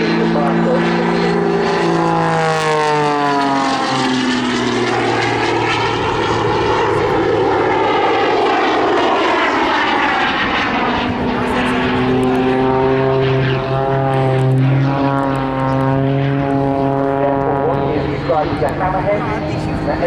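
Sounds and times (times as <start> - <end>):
biplane propeller engine passing: 0.0 - 20.0.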